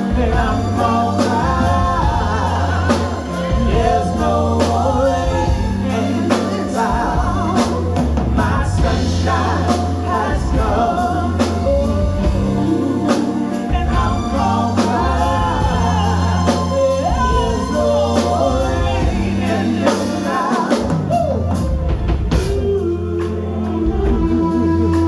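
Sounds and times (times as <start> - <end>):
bass line: 0.0 - 25.0
drum kit beat: 0.0 - 25.0
person singing: 0.0 - 25.0.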